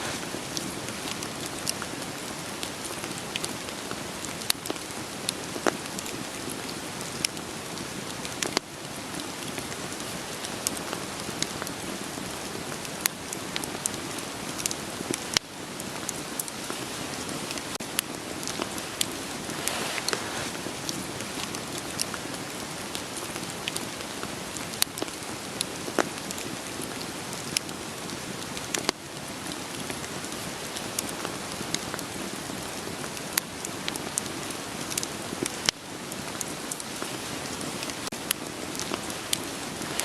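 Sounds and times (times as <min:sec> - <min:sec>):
steady rain falling: 0:00.0 - 0:40.0
wood fire crackling: 0:00.0 - 0:40.0.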